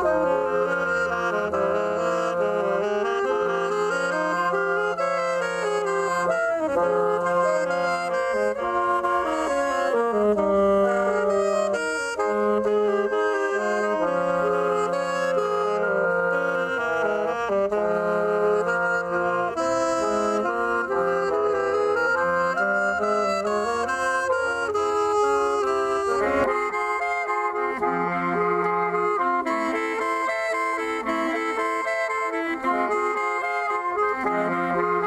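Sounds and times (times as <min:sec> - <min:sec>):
saxophone trio playing: 0:00.0 - 0:35.0.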